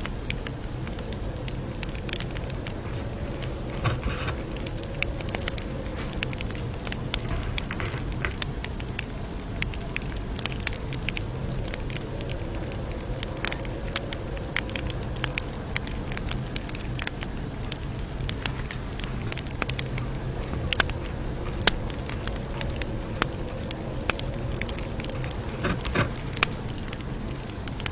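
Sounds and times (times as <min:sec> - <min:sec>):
campfire crackling and popping: 0:00.0 - 0:27.9
low rumble of flame: 0:00.0 - 0:27.9.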